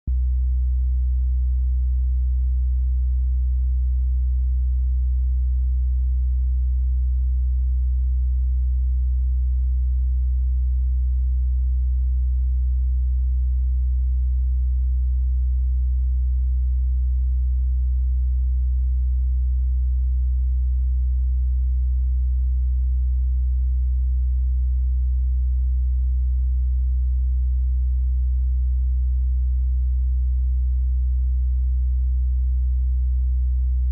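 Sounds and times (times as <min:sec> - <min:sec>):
low electrical hum: 0:00.1 - 0:33.9.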